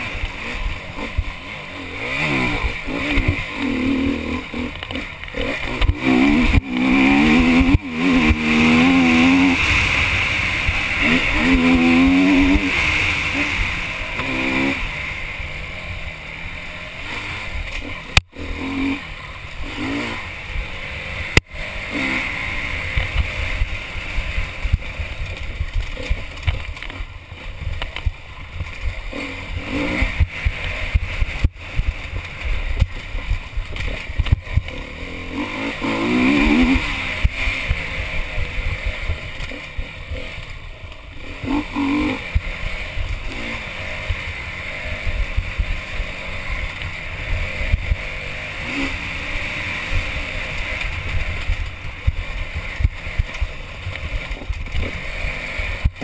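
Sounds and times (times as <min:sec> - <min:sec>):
motorcycle bouncing over trail: 0:00.0 - 0:56.0
motorcycle engine revving: 0:00.0 - 0:56.0.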